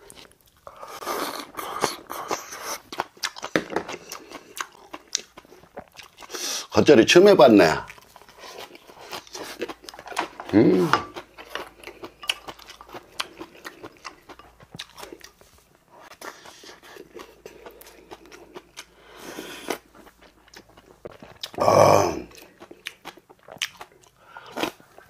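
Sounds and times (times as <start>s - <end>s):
chewing and crunching food: 0.0s - 6.7s, 7.8s - 21.6s, 22.2s - 25.0s.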